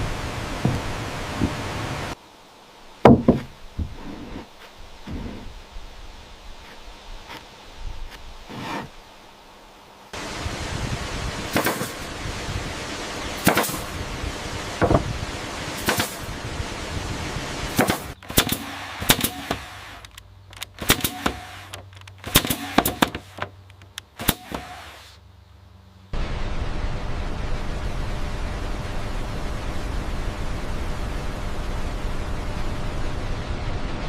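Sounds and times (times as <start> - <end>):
steady rushing noise: 0.0 - 25.2, 26.1 - 34.0.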